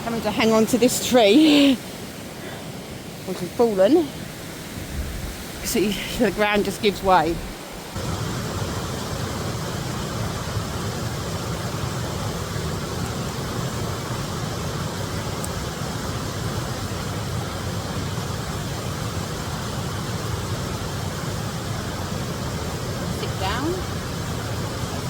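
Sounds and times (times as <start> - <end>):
rushing water roar: 0.0 - 25.0.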